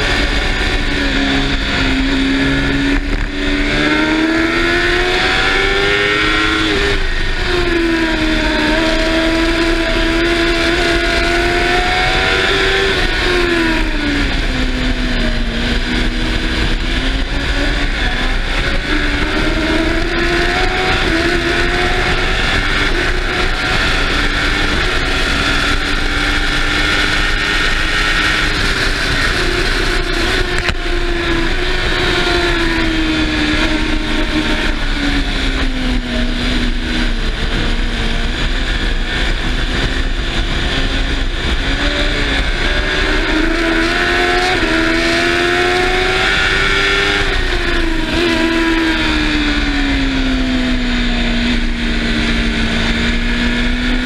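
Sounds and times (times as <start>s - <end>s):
racing engine revving: 0.0s - 54.0s
wind rush on microphone: 0.0s - 54.0s.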